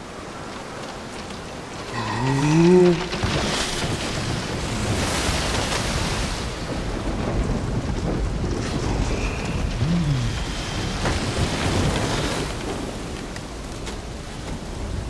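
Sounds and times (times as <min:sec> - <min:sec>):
heavy rain hissing: 0:00.0 - 0:15.0
low rumble of thunder: 0:01.0 - 0:15.0.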